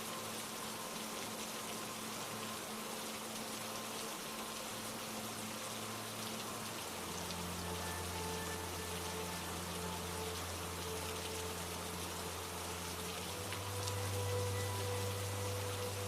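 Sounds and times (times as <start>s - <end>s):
calm ambient music: 0.0s - 16.0s
steady rain falling: 0.0s - 16.0s.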